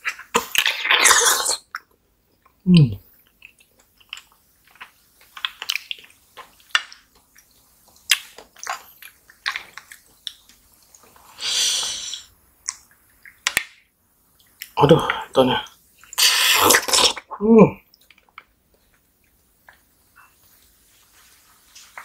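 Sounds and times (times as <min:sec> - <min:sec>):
wet mouth eating sounds: 0:00.0 - 0:13.7, 0:14.4 - 0:20.4.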